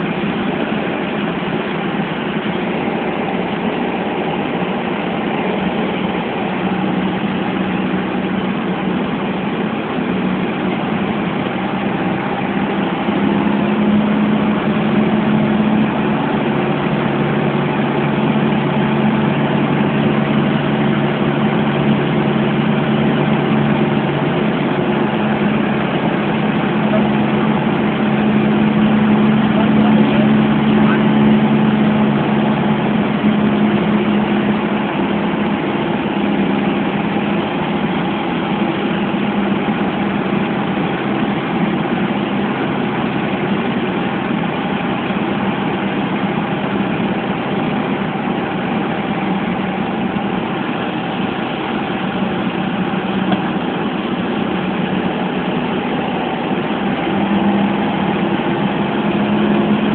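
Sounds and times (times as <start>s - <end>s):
propeller aircraft engine drone: 0.0s - 59.9s
rushing airflow: 0.0s - 59.9s.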